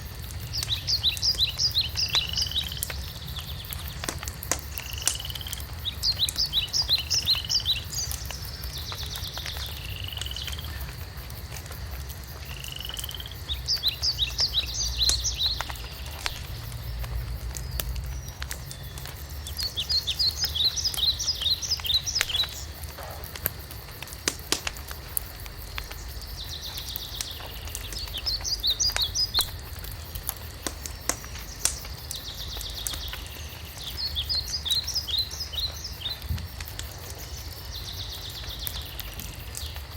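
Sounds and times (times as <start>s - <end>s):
songbird singing: 0.0s - 11.4s, 12.3s - 23.2s, 24.1s - 39.9s
wood fire crackling: 0.0s - 39.9s.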